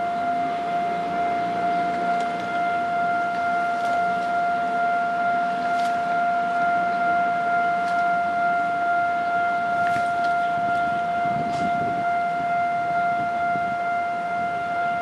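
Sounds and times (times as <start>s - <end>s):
level crossing alarm steady tone: 0.0s - 15.0s
train coaches rumbling past: 0.0s - 15.0s.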